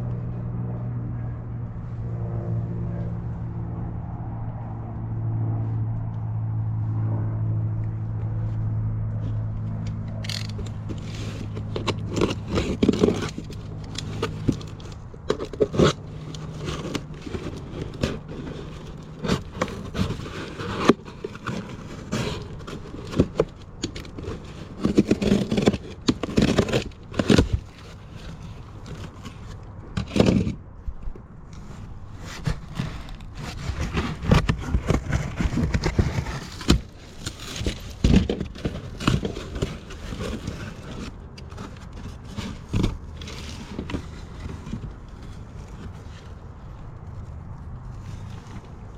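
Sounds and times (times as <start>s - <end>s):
steady low hum: 0.0s - 48.9s
objects clattering and scraping: 9.2s - 48.9s.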